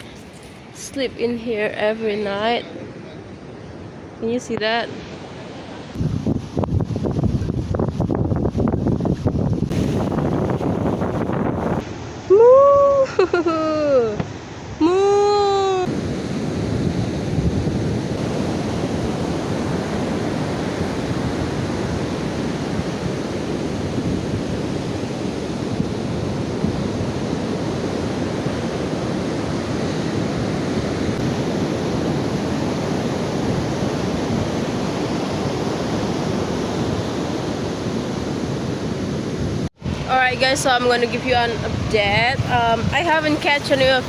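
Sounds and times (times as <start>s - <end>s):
wind buffeting microphone: 0.0s - 14.4s, 15.4s - 44.0s
strong wind: 0.0s - 44.0s
surf breaking on beach: 4.8s - 14.4s, 15.6s - 44.0s.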